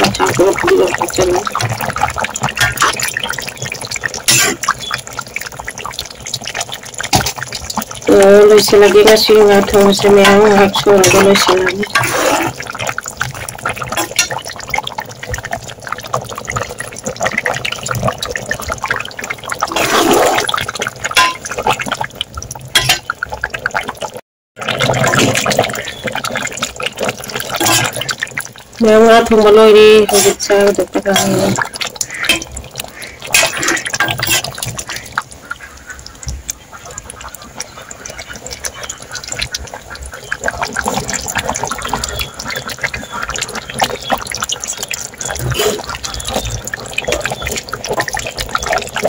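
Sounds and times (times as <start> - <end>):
curry bubbling in a pot: 0.0 - 49.0.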